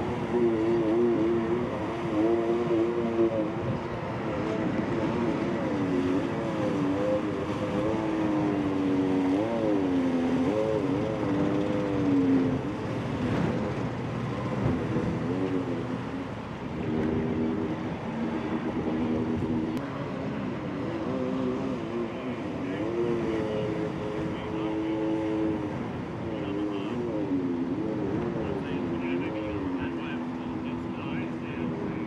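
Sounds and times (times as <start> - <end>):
jet ski engine running: 0.0 - 32.0.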